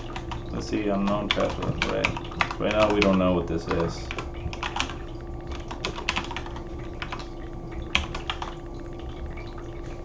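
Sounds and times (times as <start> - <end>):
computer keyboard typing: 0.0 - 8.6
faint steady hum: 0.0 - 10.0.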